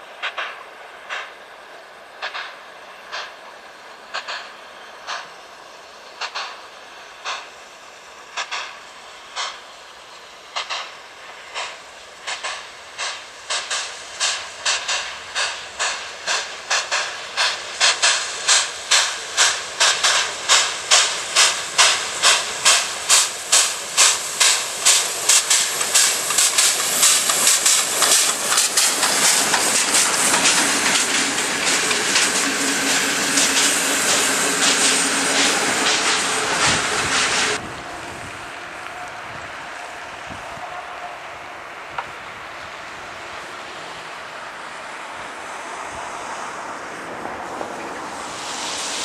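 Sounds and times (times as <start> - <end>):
steam locomotive exhaust chuffs: 0.0 - 49.0
train wheels rolling on rails: 0.0 - 49.0.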